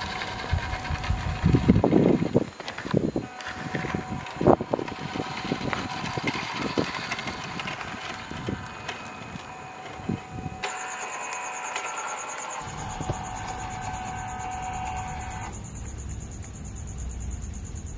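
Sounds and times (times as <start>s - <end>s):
toy car motor and gears whining: 0.0s - 15.9s
tyres clicking on paving: 0.0s - 16.6s.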